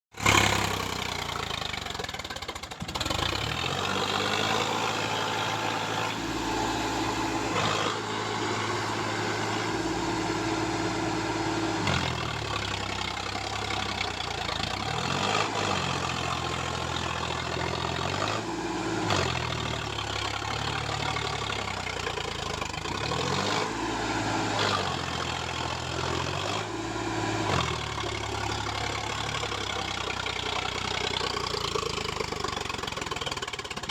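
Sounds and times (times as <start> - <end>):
tractor diesel engine revving: 0.1 - 33.9.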